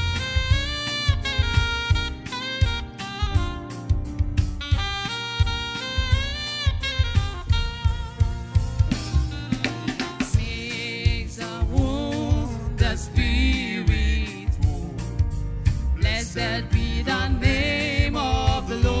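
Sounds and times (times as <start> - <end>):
drum kit steady beat: 0.0 - 19.0
sustained melody line: 0.0 - 19.0.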